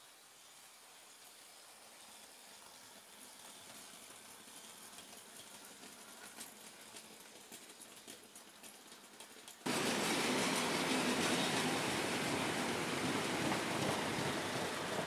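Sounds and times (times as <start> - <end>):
model train hiss: 0.0 - 15.0
wheels clicking over rail joints: 2.1 - 15.0.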